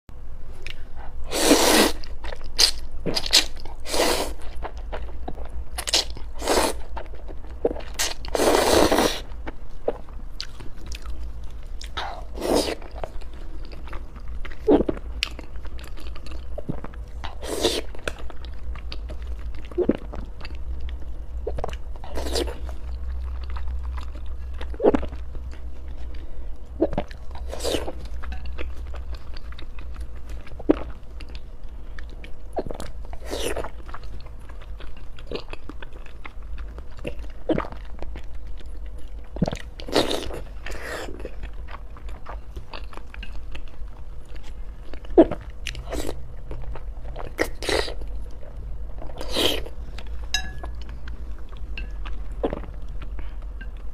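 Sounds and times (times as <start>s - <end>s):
steady low hum: 0.1s - 53.9s.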